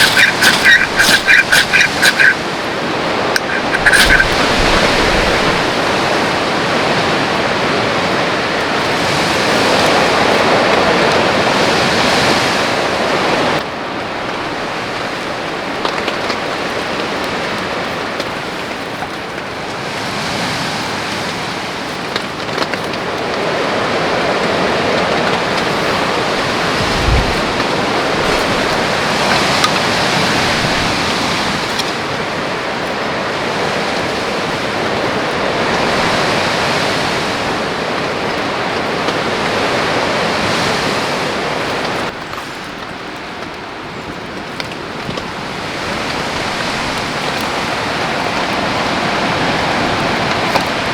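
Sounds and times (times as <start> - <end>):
heavy rain and gusting wind: 0.0 - 50.9.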